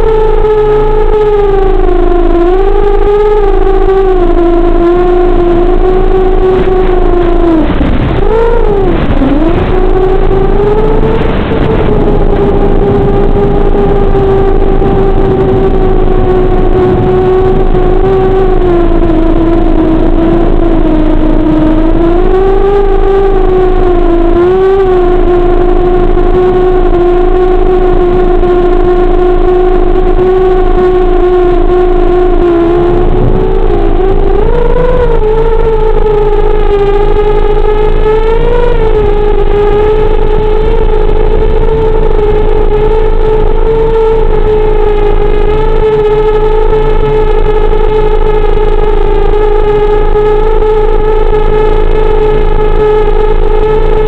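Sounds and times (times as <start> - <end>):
electric motor and propeller: 0.0 - 54.0.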